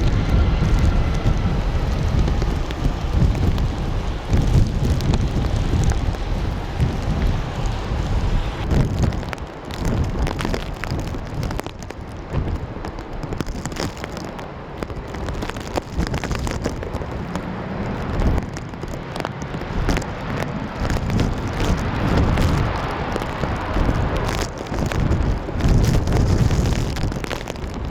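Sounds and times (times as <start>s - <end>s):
scattered crackles: 0.0s - 27.9s
wind buffeting microphone: 0.0s - 27.9s.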